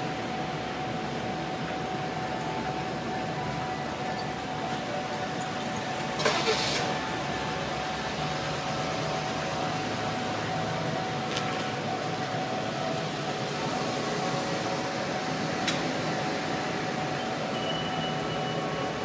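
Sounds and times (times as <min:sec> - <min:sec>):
constant rushing noise: 0:00.0 - 0:19.0
level-crossing alarm ringing: 0:00.0 - 0:19.0.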